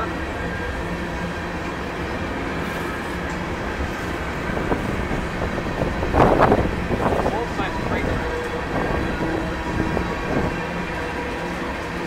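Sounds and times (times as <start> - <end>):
steel wheels running on rails: 0.0 - 12.0.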